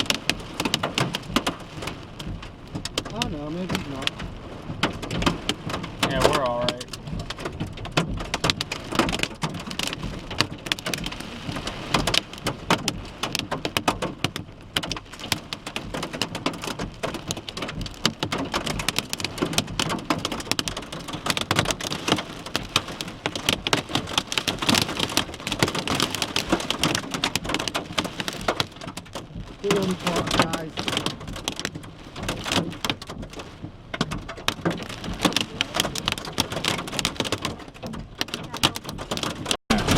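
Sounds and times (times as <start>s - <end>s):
hail and rain striking car: 0.0s - 39.9s.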